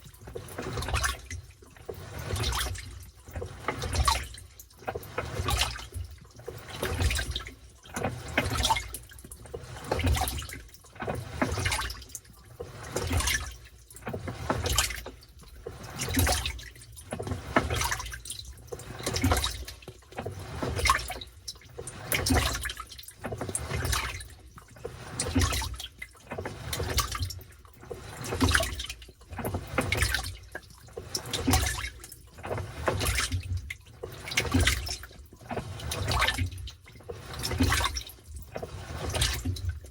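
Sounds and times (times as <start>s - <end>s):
washing machine sloshing water: 0.0s - 39.9s.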